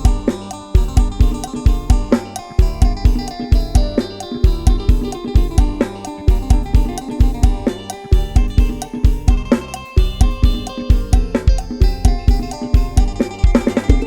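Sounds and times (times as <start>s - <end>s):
bass: 0.0s - 14.0s
drum kit with kick and hi-hat: 0.0s - 14.0s
plucked-string melody: 0.0s - 14.0s.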